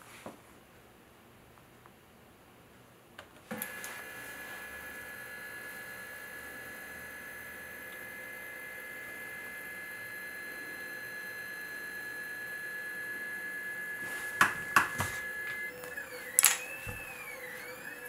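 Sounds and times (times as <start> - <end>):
stepper motors whining: 3.5 - 18.0.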